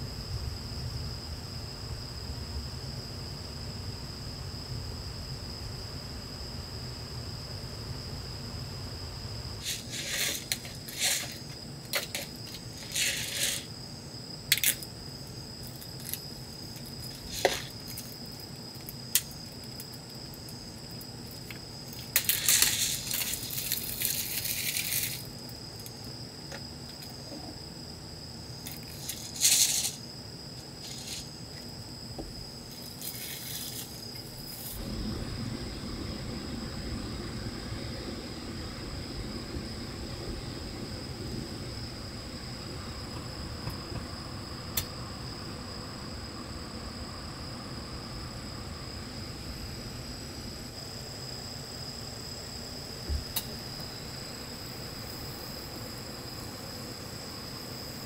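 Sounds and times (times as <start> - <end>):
constant high-pitched tone: 0.0 - 58.0
gas stove hissing: 6.9 - 27.0, 28.0 - 58.0.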